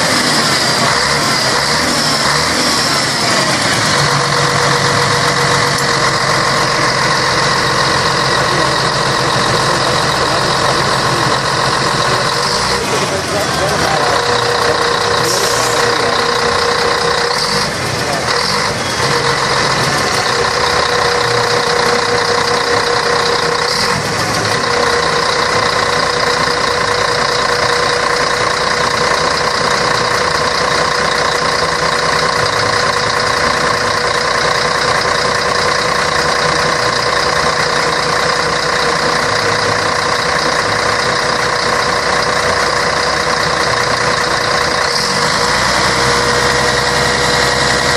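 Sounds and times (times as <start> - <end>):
bus diesel engine droning: 0.0 - 47.9.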